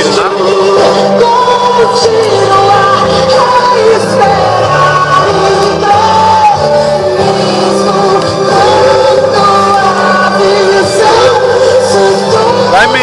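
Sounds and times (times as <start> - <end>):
loud music: 0.0 - 13.0
person singing gliding notes: 0.0 - 13.0.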